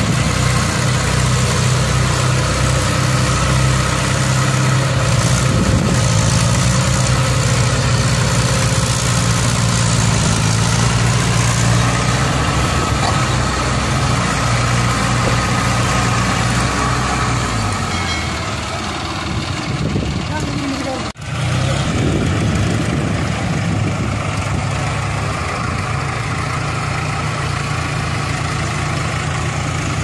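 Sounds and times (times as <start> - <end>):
diesel tractor engines running: 0.0 - 30.0.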